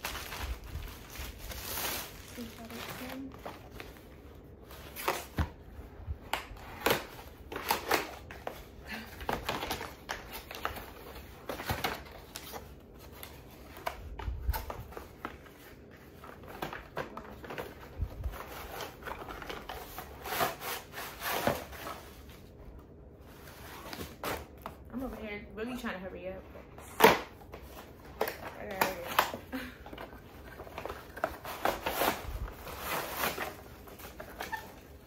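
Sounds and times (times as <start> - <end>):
packaging rustling and crinkling: 0.0 - 25.1, 27.4 - 35.0.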